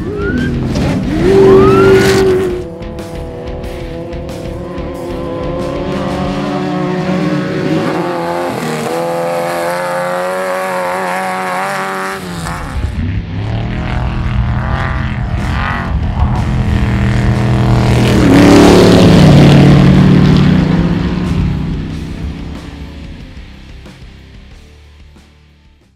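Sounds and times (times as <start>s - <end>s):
race engines revving: 0.0s - 24.8s.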